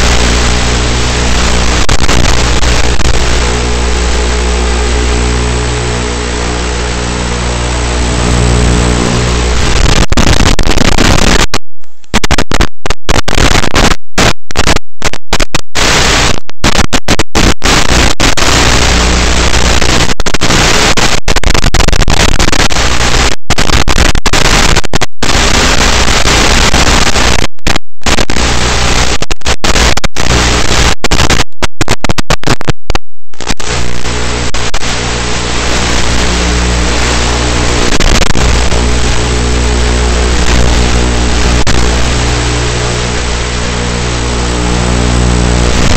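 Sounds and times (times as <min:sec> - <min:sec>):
loud static hiss: 0:00.0 - 0:45.9.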